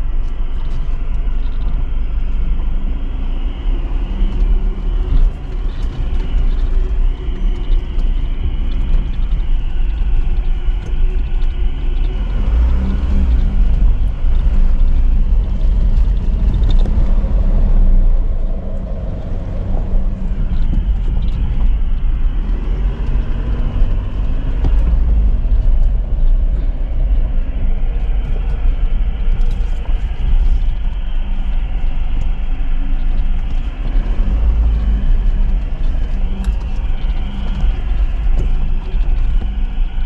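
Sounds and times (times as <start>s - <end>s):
engine and tyres rumbling: 0.0s - 40.0s
small rattles and clicks: 0.0s - 40.0s.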